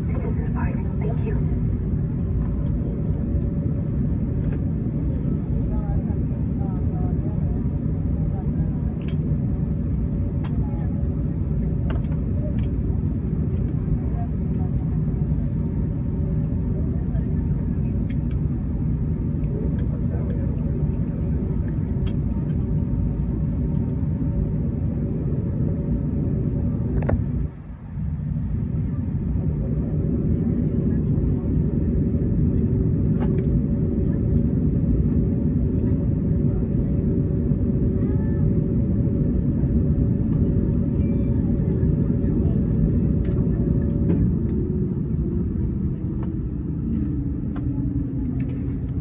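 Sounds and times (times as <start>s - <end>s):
airliner cabin rumble: 0.0s - 49.0s
faint hum: 0.0s - 49.0s.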